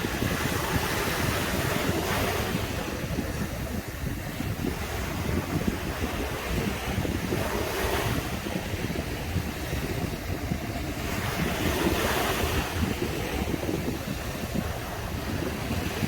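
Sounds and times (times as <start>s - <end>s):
sea surf washing onto beach: 0.0s - 16.0s
wind rumble on microphone: 0.0s - 16.0s.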